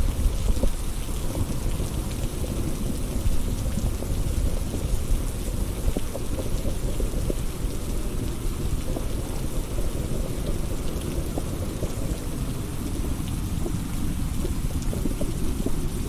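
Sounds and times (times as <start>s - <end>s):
heavy rain falling: 0.0s - 16.0s
raindrops ticking: 0.0s - 16.0s.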